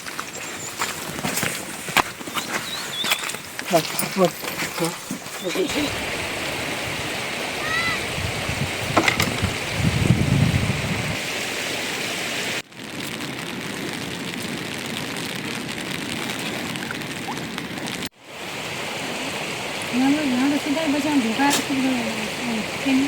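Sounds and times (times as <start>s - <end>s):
running water: 0.0s - 12.6s, 16.1s - 23.0s
rain: 0.0s - 23.0s.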